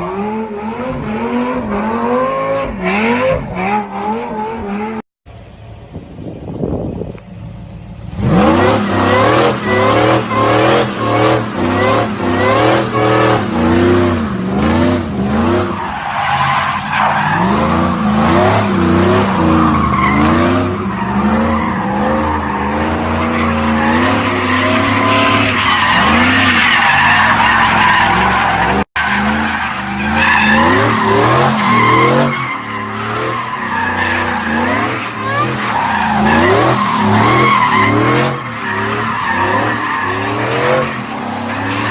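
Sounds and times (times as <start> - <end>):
car engine revving: 7.4 - 41.9.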